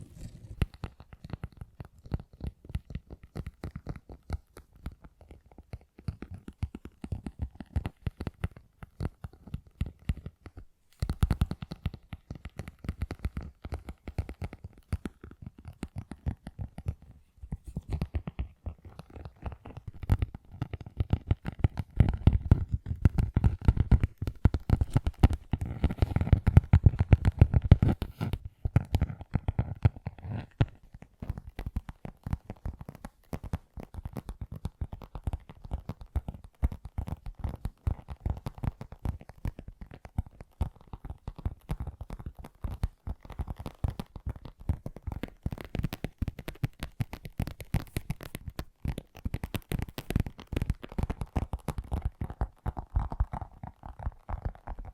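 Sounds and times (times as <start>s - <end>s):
fingertips tapping and scratching: 0.0s - 54.9s.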